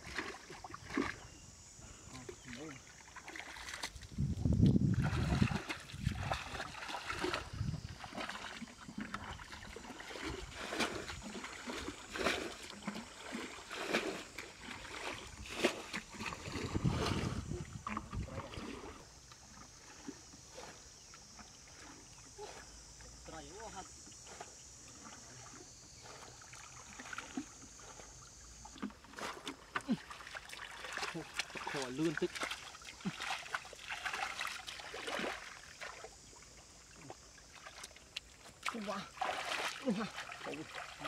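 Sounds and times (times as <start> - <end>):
water splashing and sloshing: 0.0 - 41.0
water trickling: 1.9 - 41.0.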